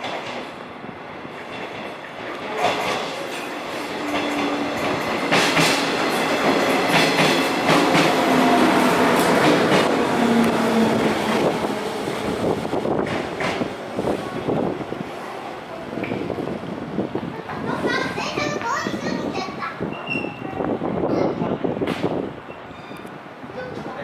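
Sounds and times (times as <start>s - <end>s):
train running rumble: 0.0s - 22.5s.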